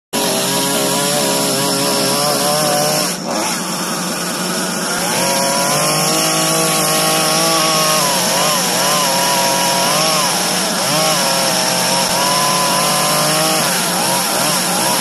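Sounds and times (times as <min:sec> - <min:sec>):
chainsaw cutting wood: 0:00.2 - 0:15.0.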